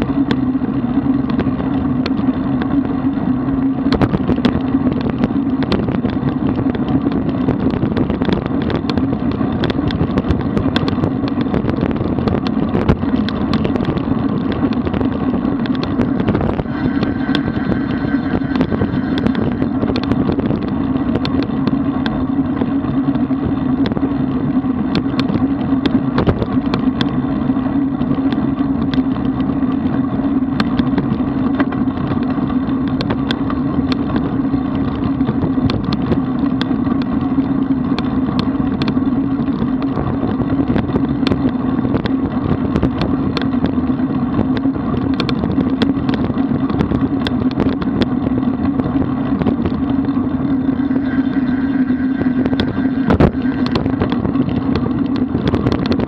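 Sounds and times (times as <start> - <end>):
bike clicks and rattles: 0.0 - 56.0
road noise: 0.0 - 56.0
wind rush: 0.0 - 56.0.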